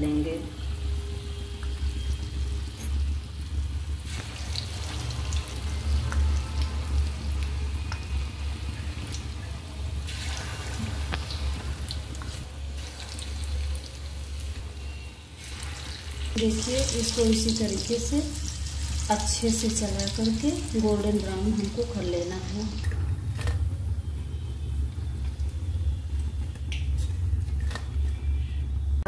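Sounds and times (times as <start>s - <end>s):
food deep-frying in oil: 0.0s - 23.4s.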